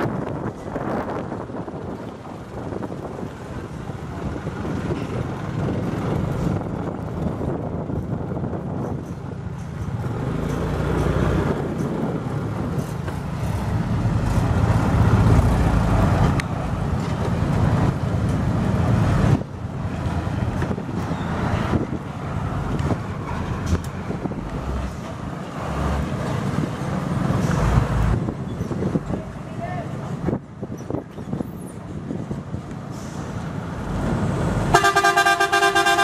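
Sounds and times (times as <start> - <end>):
diesel truck engine rumbling: 0.0 - 36.0.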